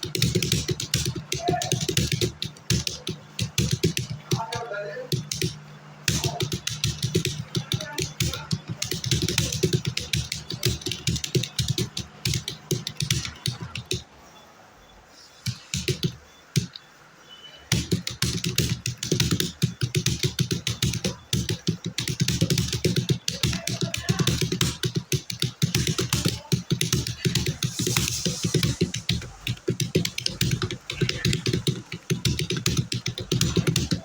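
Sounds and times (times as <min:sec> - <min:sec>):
typing on a computer keyboard: 0:00.0 - 0:14.1, 0:15.4 - 0:16.9, 0:17.6 - 0:34.0.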